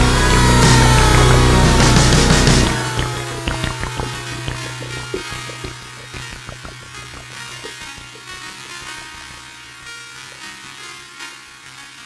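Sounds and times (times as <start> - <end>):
background music with steady beat: 0.0 - 9.9.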